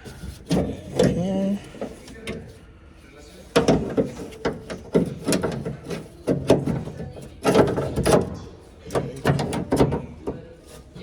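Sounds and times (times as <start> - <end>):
scraping on metal door: 0.0 - 2.7, 3.3 - 11.0.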